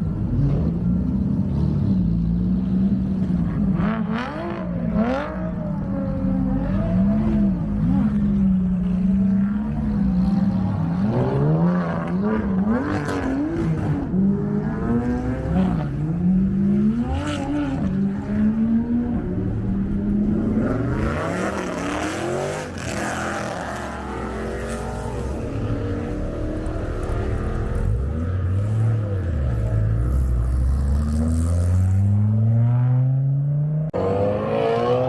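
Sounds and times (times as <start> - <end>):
car engine revving: 0.2 - 35.0.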